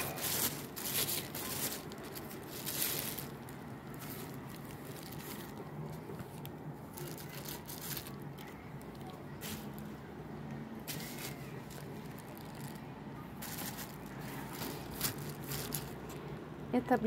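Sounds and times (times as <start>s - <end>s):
plastic bag crinkling: 0.0s - 9.9s, 10.8s - 16.2s.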